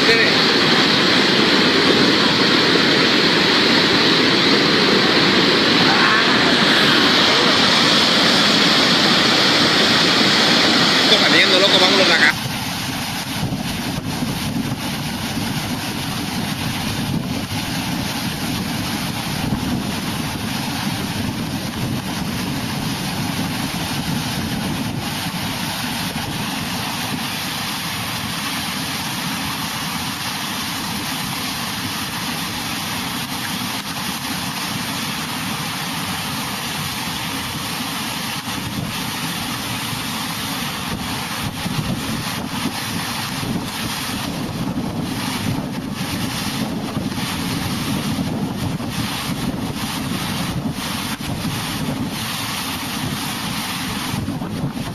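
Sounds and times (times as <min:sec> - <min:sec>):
wind on microphone: 0:00.0 - 0:27.6, 0:38.2 - 0:54.9
rushing torrent roar: 0:00.0 - 0:54.9.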